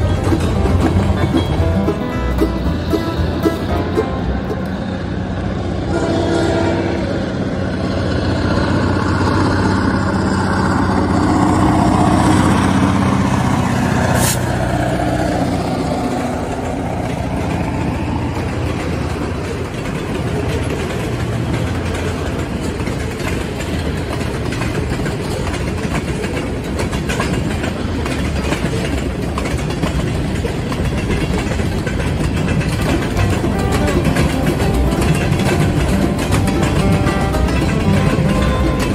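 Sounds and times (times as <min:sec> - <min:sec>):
diesel locomotive drone: 0:00.0 - 0:38.9
train cars rumbling on rails: 0:00.0 - 0:38.9.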